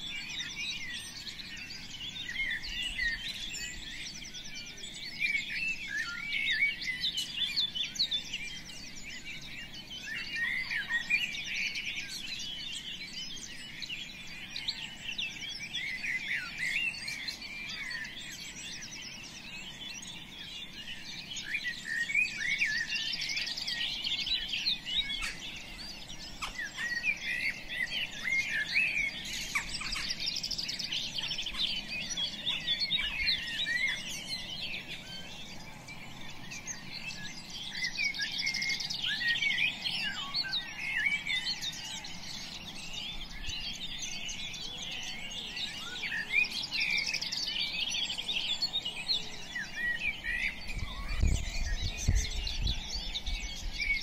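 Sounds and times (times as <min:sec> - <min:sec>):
dense chorus of birds chirping: 0:00.0 - 0:54.0.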